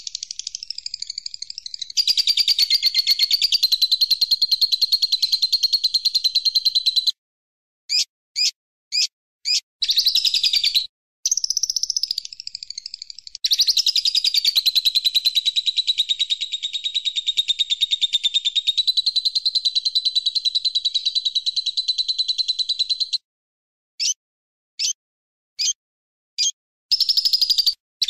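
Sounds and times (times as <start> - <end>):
bird chirping and trilling: 0.0 - 7.2, 7.9 - 23.2, 24.0 - 24.2, 24.8 - 25.0, 25.6 - 25.8, 26.4 - 27.8.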